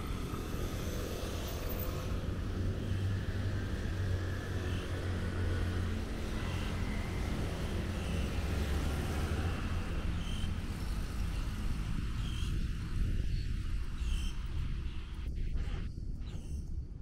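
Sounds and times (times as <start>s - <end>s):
rumble of passing cars and scooters: 0.0s - 17.0s.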